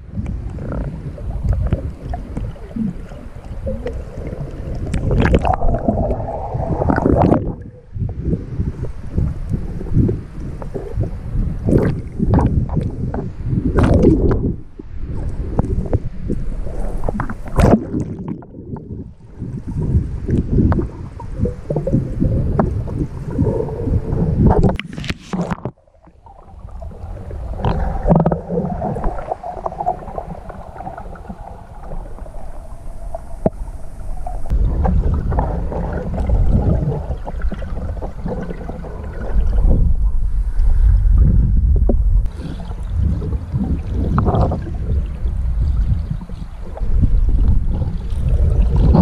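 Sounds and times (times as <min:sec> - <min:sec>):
knocks and clatters underwater: 0:00.0 - 0:32.4, 0:33.1 - 0:49.0
underwater rumble of moving water: 0:00.0 - 0:49.0.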